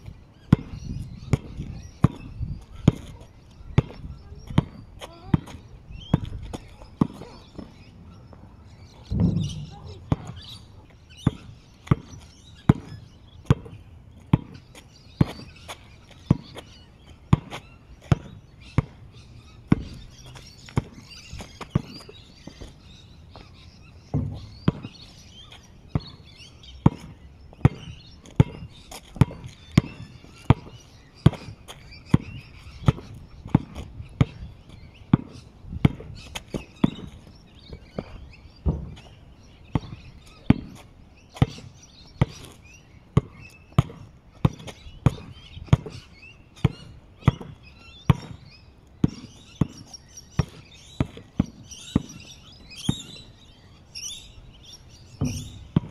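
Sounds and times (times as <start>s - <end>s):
basketball bouncing on asphalt: 0.4s - 7.9s, 9.0s - 53.5s, 55.0s - 55.9s.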